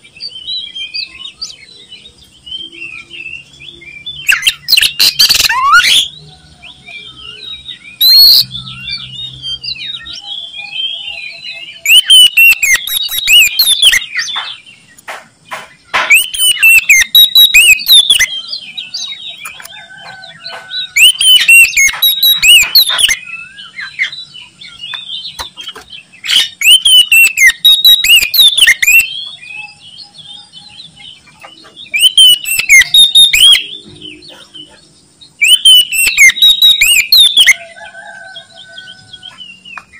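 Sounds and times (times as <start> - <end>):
bird whistled song: 0.0 - 39.9
soft bird calls and chatter: 0.0 - 39.9.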